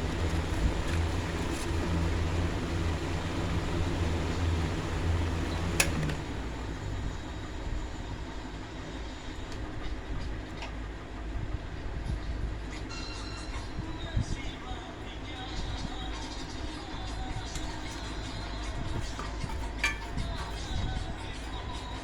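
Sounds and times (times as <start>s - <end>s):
electric fan motor hum: 0.0s - 22.0s.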